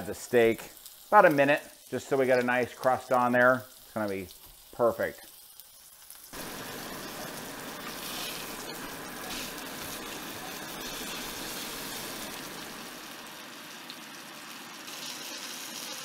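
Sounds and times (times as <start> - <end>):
steak sizzling in a skillet: 0.0 - 16.0.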